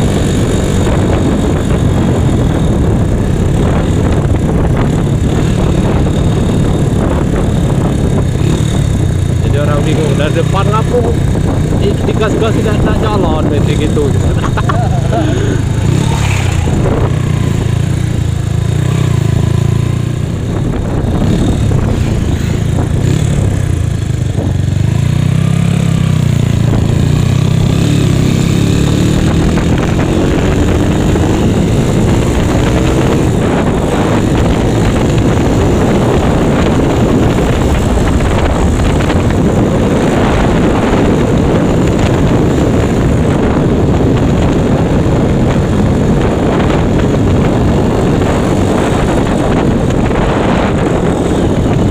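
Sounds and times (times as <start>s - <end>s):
scooter engine running: 0.0s - 51.9s
wind noise on microphone: 0.0s - 51.9s.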